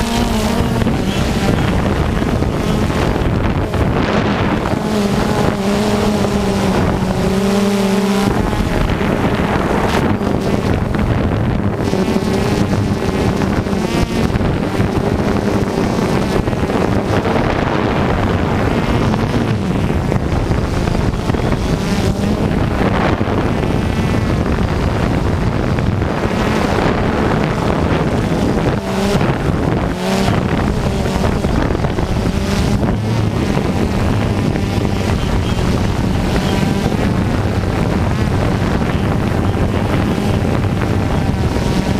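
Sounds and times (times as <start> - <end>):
rc car motors buzzing and revving: 0.0 - 41.9
wind on microphone: 0.0 - 41.9.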